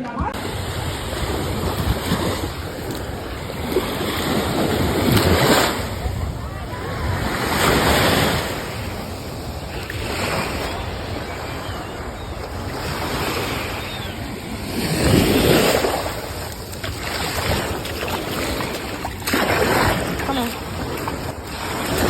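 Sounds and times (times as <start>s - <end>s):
ocean surf washing ashore: 0.0s - 22.0s
wind rumbling on microphone: 0.0s - 22.0s.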